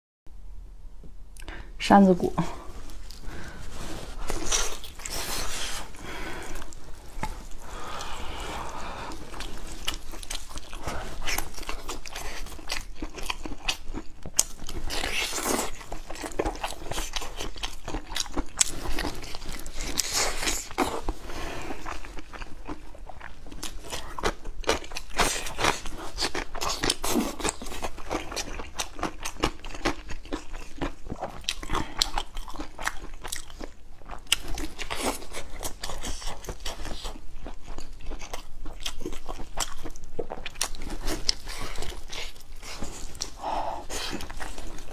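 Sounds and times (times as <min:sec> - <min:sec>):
wet chewing with crunchy bites: 0:02.7 - 0:44.9.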